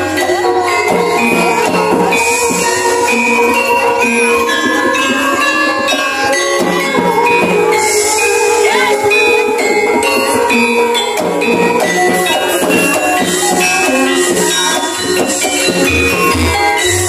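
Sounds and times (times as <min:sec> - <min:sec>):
gamelan music: 0:00.0 - 0:17.0
high jingling: 0:00.7 - 0:17.0.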